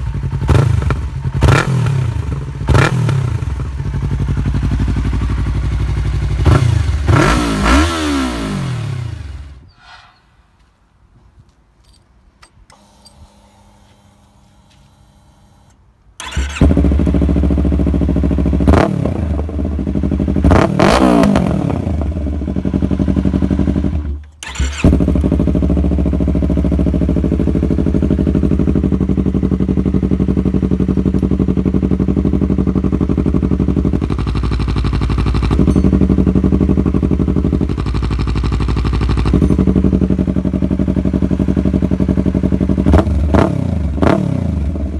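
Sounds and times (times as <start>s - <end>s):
motorcycle engine revving and idling: 0.0s - 9.7s, 16.2s - 44.9s.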